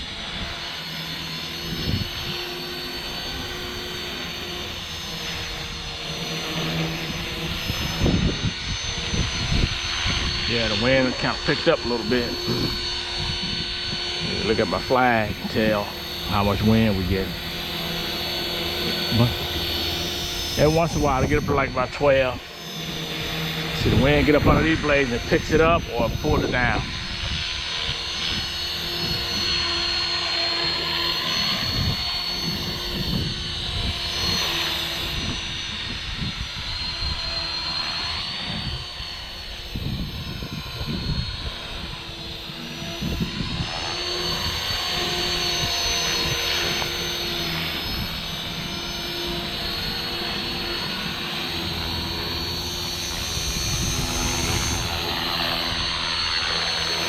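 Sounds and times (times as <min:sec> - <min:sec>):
rc helicopter motor whine: 0:00.0 - 0:57.0
wind buffeting microphone: 0:01.6 - 0:30.0, 0:31.3 - 0:56.7.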